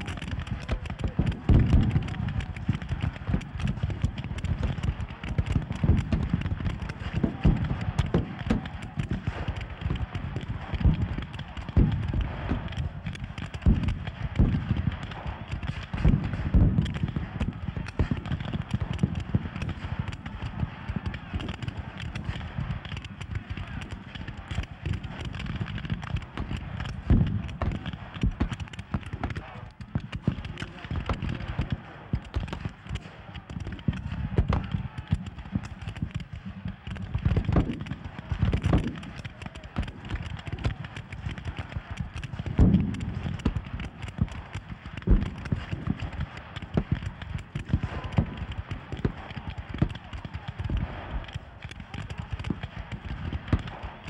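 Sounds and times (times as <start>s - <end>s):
muskets firing: 0.0s - 54.0s.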